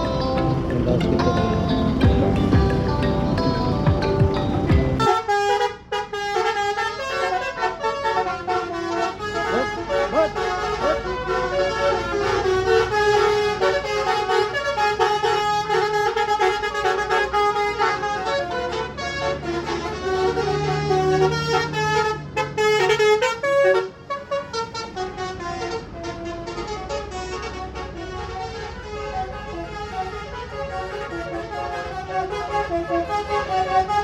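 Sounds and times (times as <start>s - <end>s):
musical air horn tune: 2.0s - 34.0s.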